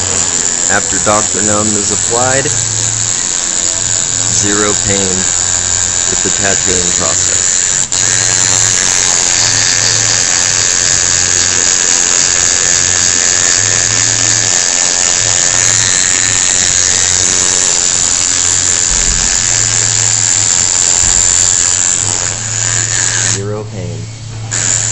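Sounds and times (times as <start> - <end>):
low hum: 0.0 - 24.9
tattoo machine buzzing: 0.0 - 24.9.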